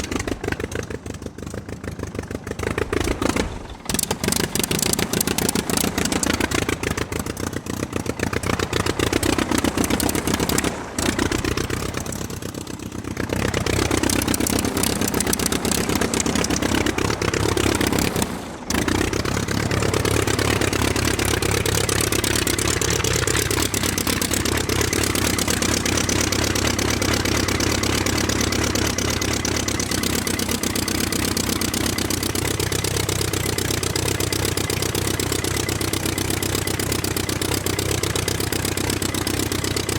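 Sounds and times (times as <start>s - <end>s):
aircraft piston engine droning: 2.6s - 39.9s.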